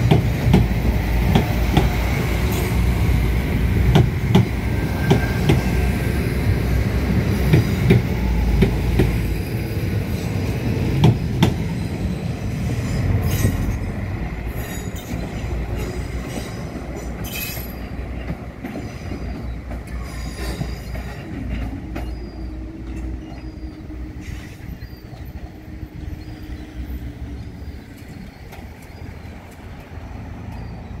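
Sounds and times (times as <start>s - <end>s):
train engine: 0.0s - 31.0s
train wheels squealing: 1.2s - 3.2s, 4.4s - 9.5s, 10.1s - 31.0s.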